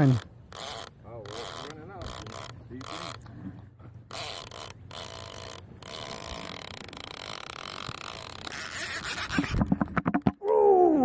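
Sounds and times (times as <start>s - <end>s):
fishing reel clicker ratcheting: 0.0s - 3.4s, 4.1s - 9.6s.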